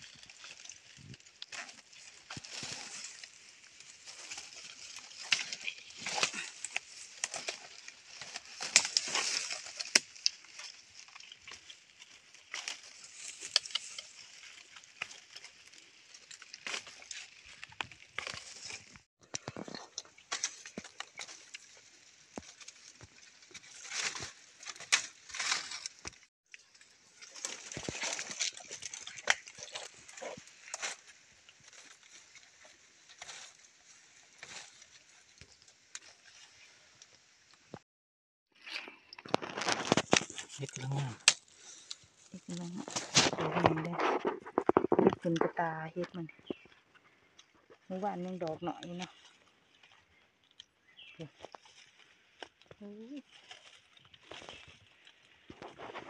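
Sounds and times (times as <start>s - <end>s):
dry leaves and twigs crunching: 0.0s - 37.8s, 38.5s - 56.0s.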